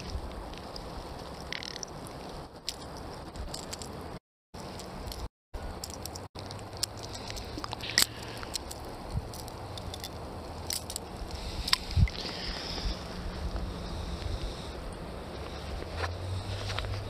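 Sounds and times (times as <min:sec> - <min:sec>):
light wind: 0:00.0 - 0:17.0.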